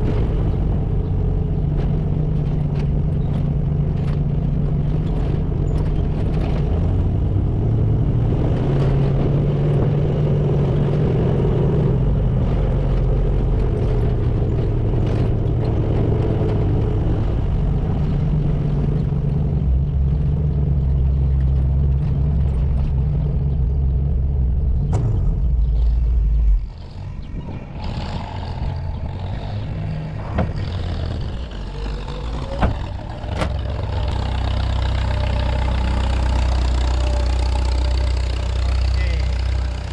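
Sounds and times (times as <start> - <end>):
pickup engine and exhaust drone: 0.0 - 39.9
quiet rumble: 0.0 - 39.9.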